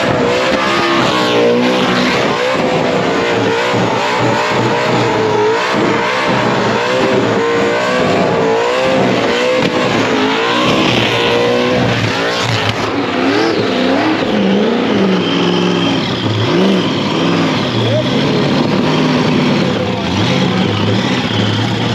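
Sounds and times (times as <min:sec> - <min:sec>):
supercharged engine revving: 0:00.0 - 0:21.9.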